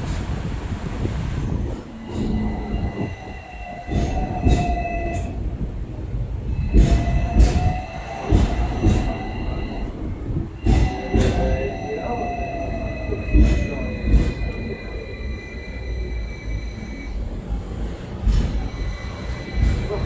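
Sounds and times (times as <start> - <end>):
wheels clacking over track: 0.0 - 20.0
train wheels squealing: 1.4 - 20.0.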